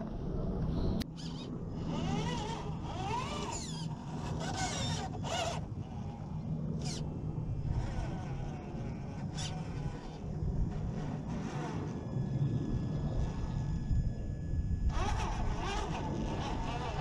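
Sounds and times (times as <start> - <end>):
electric motor whining: 1.0 - 17.0.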